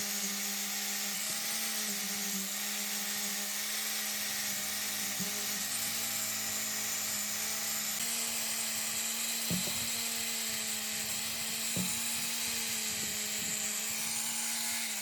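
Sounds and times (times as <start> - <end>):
power tool motor whining: 0.0 - 15.0.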